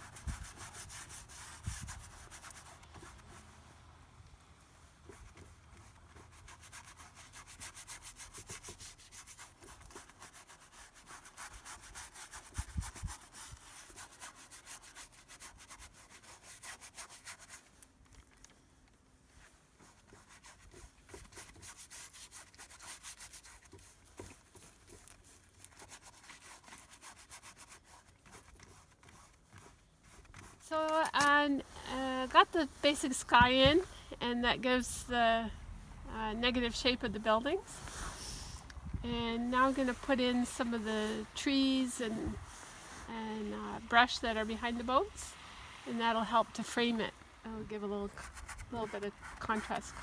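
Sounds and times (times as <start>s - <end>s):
brush scrubbing on canvas: 0.0s - 3.8s, 5.0s - 18.5s, 19.3s - 35.4s, 36.4s - 50.0s.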